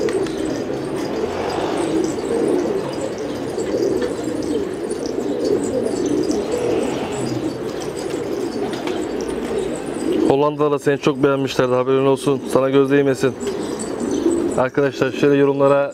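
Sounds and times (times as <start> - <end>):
pigeons cooing: 0.0 - 15.9.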